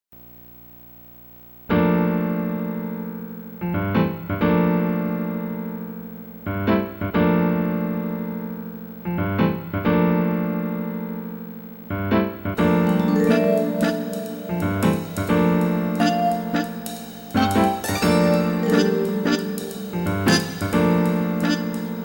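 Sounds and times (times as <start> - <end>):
electric piano chords: 1.7 - 22.0.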